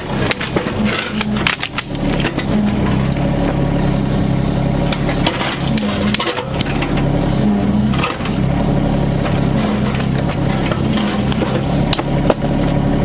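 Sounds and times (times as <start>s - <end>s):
bucket scraping rock and dirt: 0.0s - 13.0s
excavator diesel engine: 0.0s - 13.0s.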